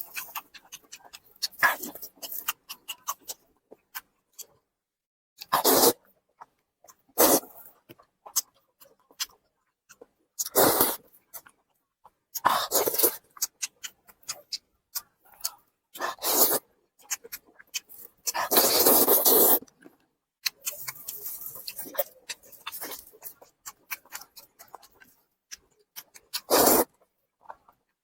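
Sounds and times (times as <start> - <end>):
slurping: 0.0 - 4.5, 5.4 - 11.6, 12.4 - 27.8
wet chewing and lip smacks: 0.0 - 4.7, 5.4 - 28.0.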